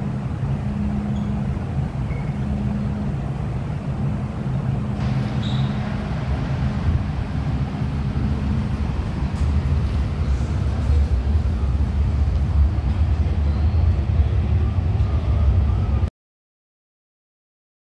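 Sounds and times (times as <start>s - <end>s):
train rumbling along track: 0.0s - 16.1s.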